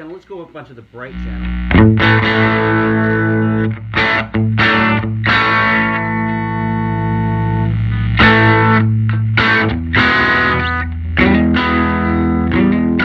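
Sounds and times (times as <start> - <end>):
electric guitar chord strums: 1.1 - 13.0.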